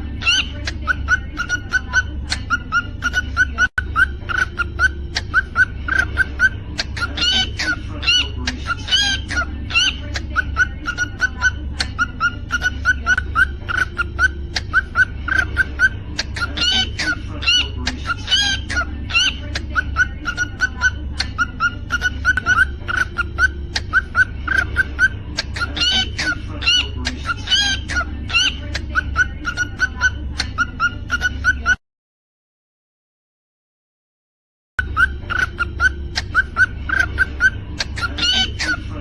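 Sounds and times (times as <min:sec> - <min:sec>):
cockatiel chirping: 0:00.2 - 0:31.8, 0:34.8 - 0:38.9.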